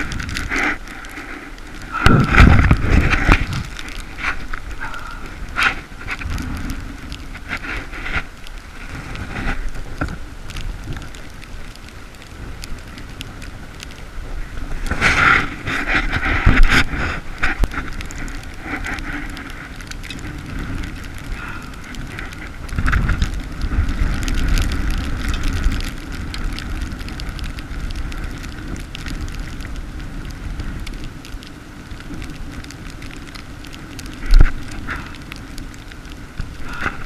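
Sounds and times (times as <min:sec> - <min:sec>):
sleet crackling: 0:00.0 - 0:37.0
wind buffeting microphone: 0:00.0 - 0:37.0.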